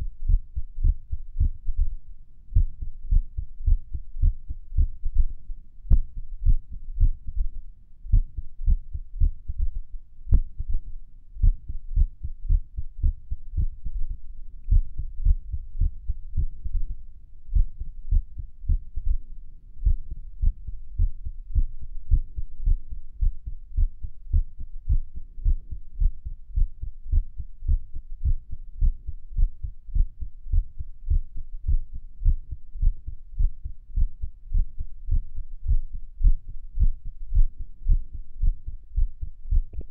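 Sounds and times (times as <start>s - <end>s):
heartbeat thuds: 0.0s - 39.9s.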